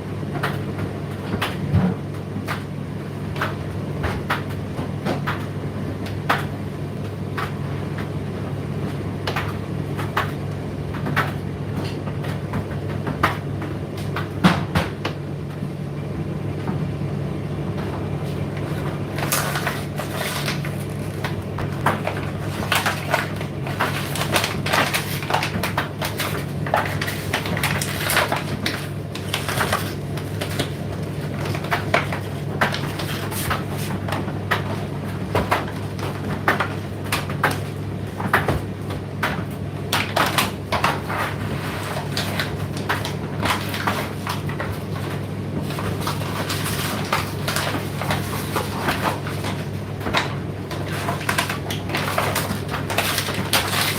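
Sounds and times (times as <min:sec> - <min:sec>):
tumble dryer humming: 0:00.0 - 0:53.9.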